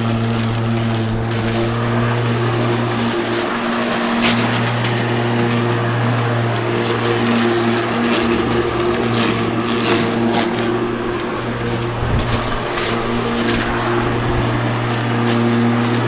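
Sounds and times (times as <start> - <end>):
electric lawn mower humming: 0.0 - 16.0
grass clippings rushing: 0.0 - 16.0.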